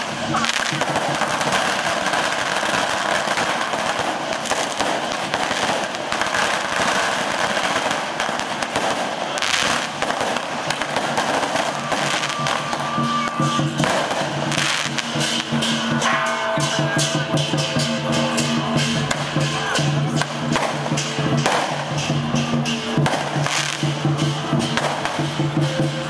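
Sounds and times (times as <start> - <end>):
firecrackers crackling: 0.0 - 26.0.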